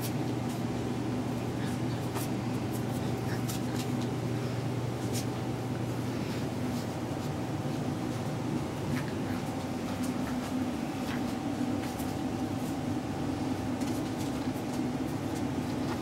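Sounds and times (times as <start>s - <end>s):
puppies scuffling on carpet: 0.0s - 16.0s
steady low hum: 0.0s - 16.0s.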